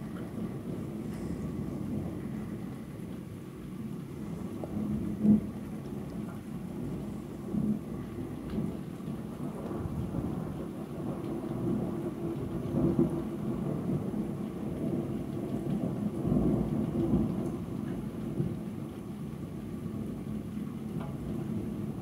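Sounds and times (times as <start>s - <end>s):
rolling thunder: 0.0s - 22.0s.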